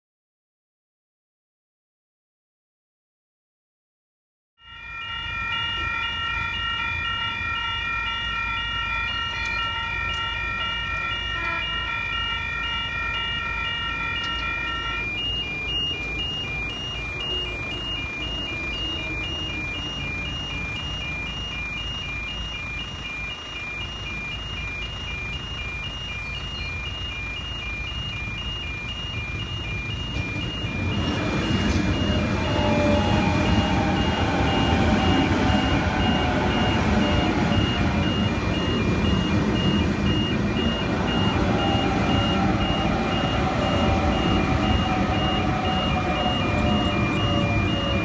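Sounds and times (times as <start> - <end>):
level crossing warning alarm: 4.6 - 48.0.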